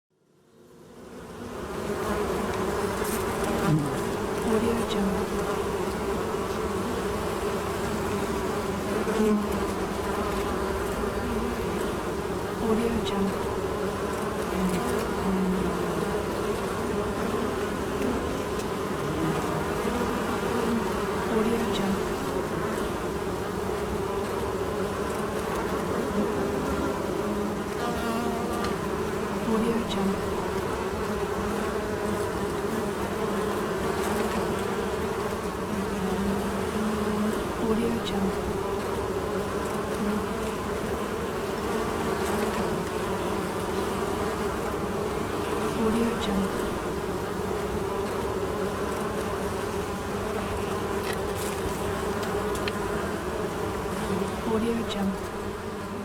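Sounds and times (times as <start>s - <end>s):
bees buzzing: 0.5s - 56.0s.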